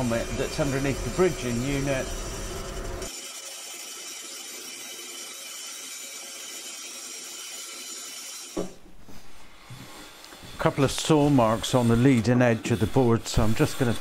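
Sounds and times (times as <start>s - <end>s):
bandsaw cutting wood: 0.0s - 8.6s, 9.7s - 14.0s.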